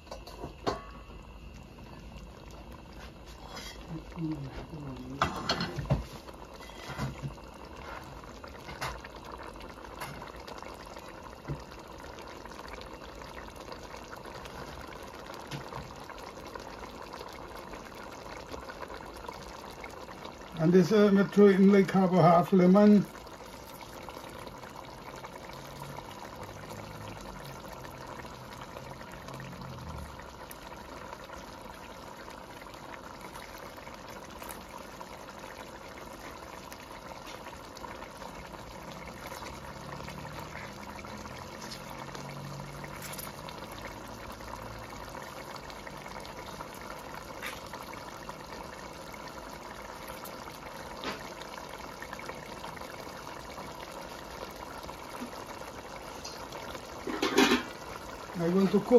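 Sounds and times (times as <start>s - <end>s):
stew bubbling in a pot: 0.0s - 58.9s.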